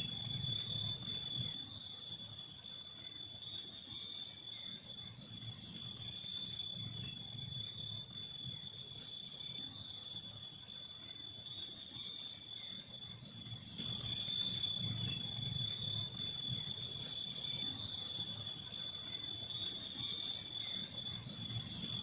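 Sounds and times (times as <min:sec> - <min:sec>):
insects buzzing: 0:00.0 - 0:22.0
shrill constant insect tone: 0:00.0 - 0:22.0.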